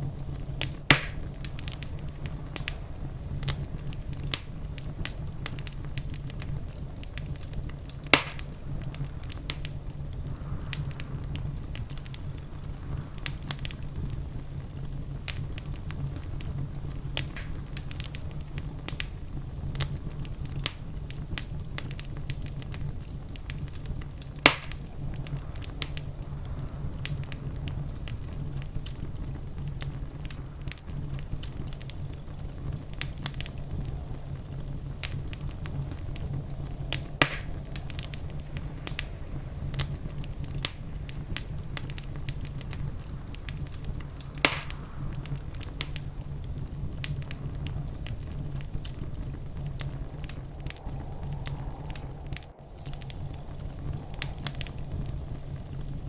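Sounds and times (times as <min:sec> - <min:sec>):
sharp fire pops: 0:00.0 - 0:56.0
wood fire crackling: 0:00.0 - 0:56.0.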